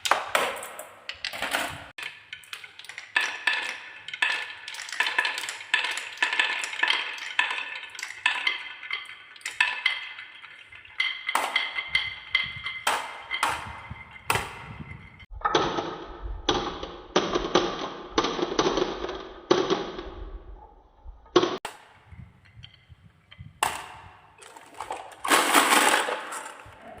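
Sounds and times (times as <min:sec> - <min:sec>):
marbles rolling and clacking: 0:00.0 - 0:20.6, 0:21.3 - 0:27.0.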